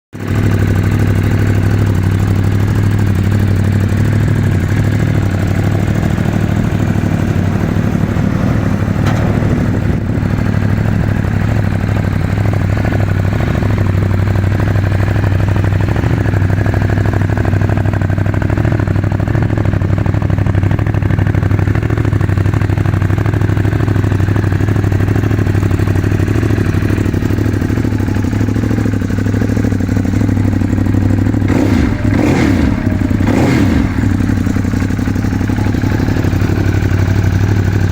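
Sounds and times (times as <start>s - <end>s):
motorcycle engine idling: 0.2s - 37.9s.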